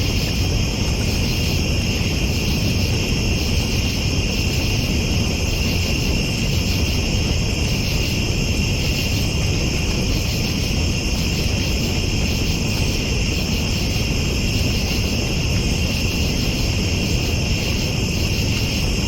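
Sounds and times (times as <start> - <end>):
campfire burning: 0.0 - 19.0
night insects chirring: 0.0 - 19.0.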